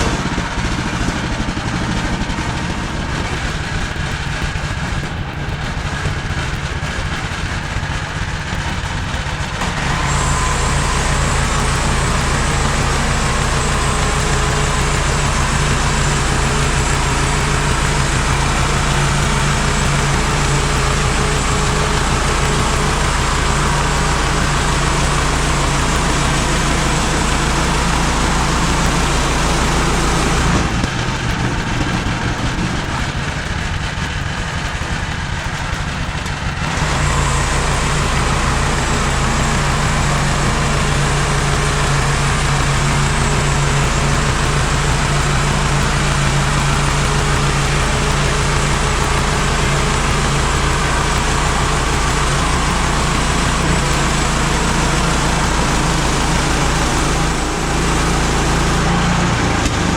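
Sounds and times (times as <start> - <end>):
band sawmill running: 0.0 - 59.9.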